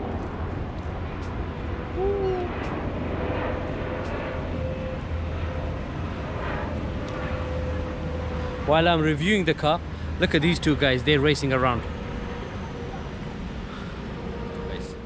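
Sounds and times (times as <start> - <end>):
constant higher hum: 0.0 - 15.0
low mechanical rumble: 0.0 - 15.0.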